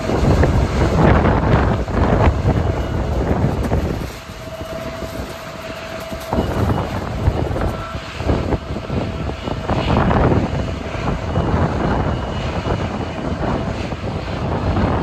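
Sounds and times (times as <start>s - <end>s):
jet engine rush with whine: 0.0s - 15.0s
wind buffeting microphone: 0.0s - 15.0s.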